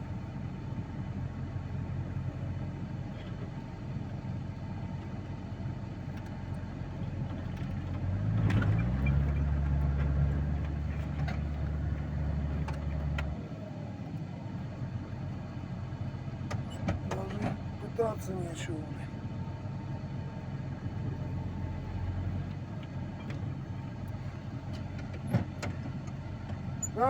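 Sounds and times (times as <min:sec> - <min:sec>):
truck engine idling and revving: 0:00.0 - 0:27.0.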